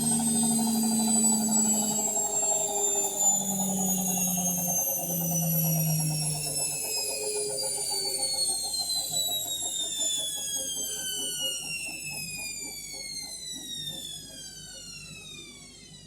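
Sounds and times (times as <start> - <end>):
washing machine motor whine: 0.0 - 16.0.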